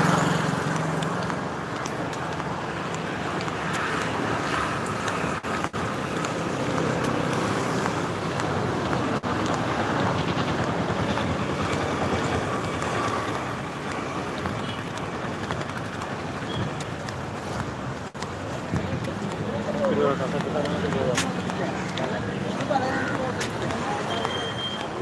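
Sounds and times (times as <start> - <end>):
vehicle traffic: 0.0 - 25.0.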